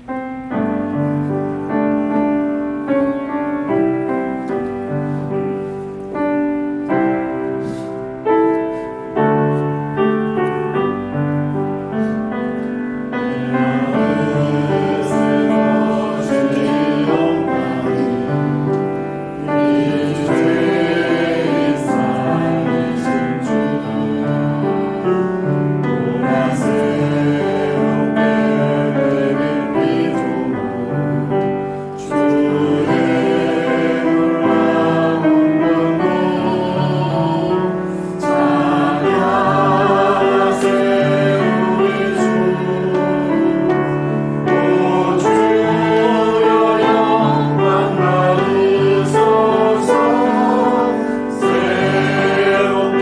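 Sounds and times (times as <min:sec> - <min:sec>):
people singing worship song: 0:03.2 - 0:53.0.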